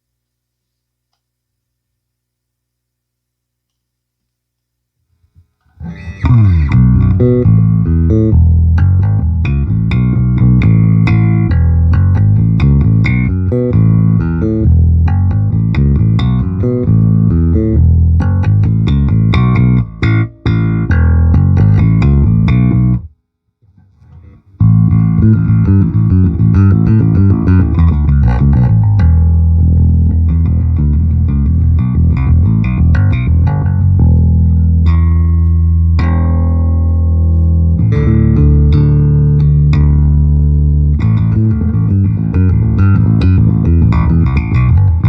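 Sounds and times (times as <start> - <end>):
electric bass guitar notes: 5.7 - 23.2, 24.0 - 45.0.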